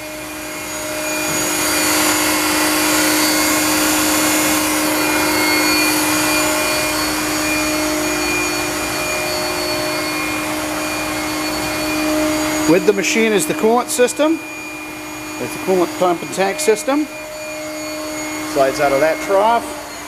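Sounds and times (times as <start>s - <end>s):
machinery whirring: 0.0s - 20.0s.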